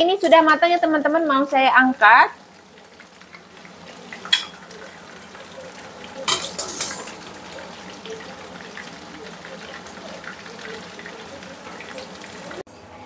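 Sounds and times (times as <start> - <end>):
chicken sizzling in wok: 0.0 - 13.0.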